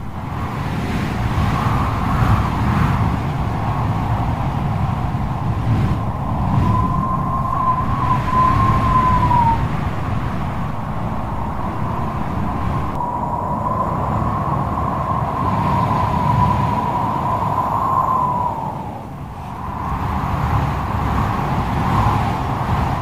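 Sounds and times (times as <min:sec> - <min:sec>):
low wind rumble: 0:00.0 - 0:23.0
wind whistling: 0:00.0 - 0:23.0.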